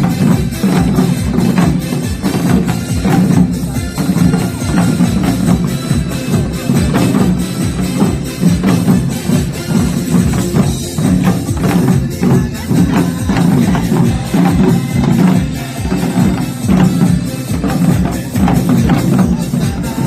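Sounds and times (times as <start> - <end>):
hourglass drums beaten fast: 0.0 - 20.0
upbeat pop dance song: 0.0 - 20.0.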